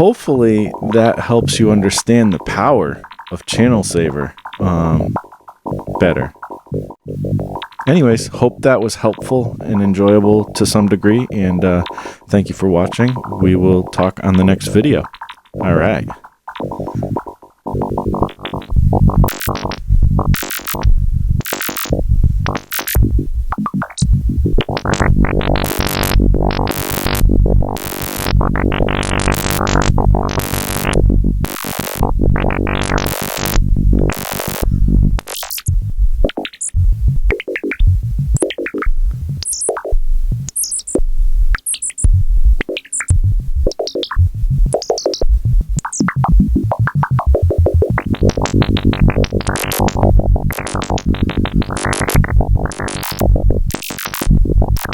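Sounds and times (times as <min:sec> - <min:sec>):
synthesizer percussive hits and blips: 0:00.6 - 0:54.9.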